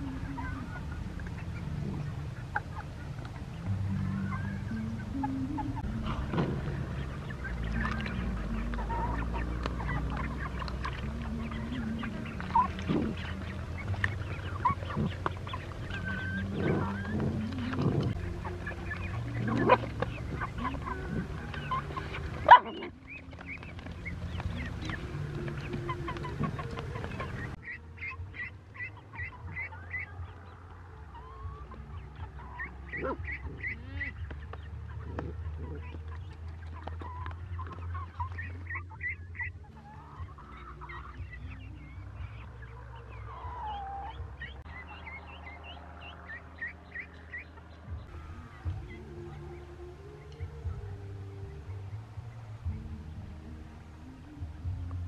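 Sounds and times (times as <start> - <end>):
chickens clucking: 0.0 - 55.0
ducklings peeping: 0.0 - 55.0.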